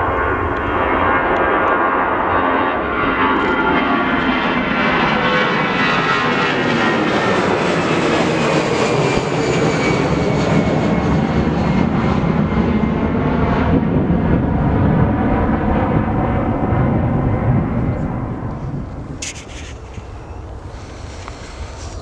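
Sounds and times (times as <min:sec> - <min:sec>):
jet airliner engines passing: 0:00.0 - 0:22.0.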